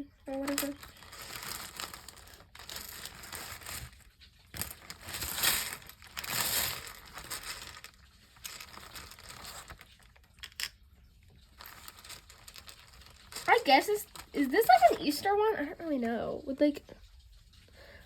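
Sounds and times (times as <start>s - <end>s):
plastic crinkling and rustling: 0.0s - 17.8s.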